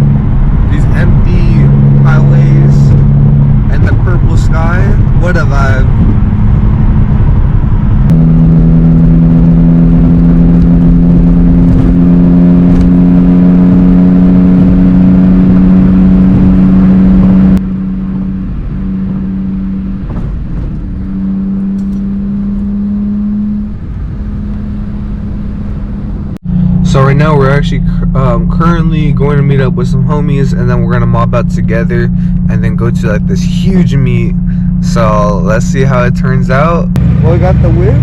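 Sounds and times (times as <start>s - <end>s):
car engine droning inside cabin: 0.0s - 38.0s.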